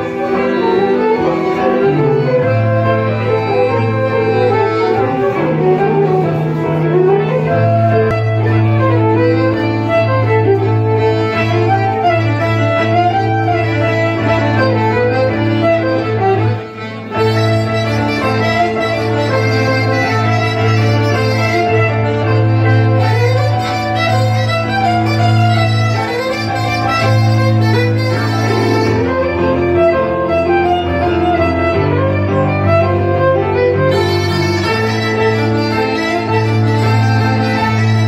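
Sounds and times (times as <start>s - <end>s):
diatonic accordion: 0.0s - 38.0s
fiddle playing dance tune: 0.0s - 38.0s.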